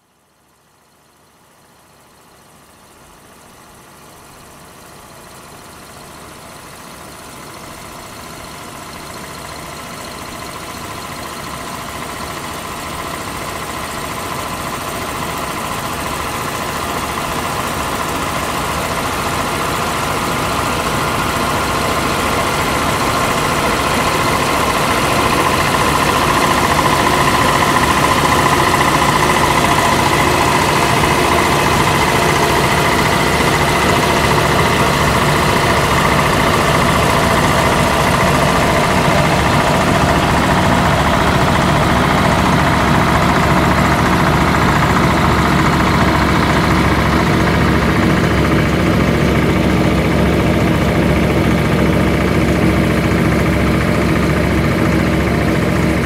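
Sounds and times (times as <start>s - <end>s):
pumpjack machinery drone: 0.0s - 56.0s.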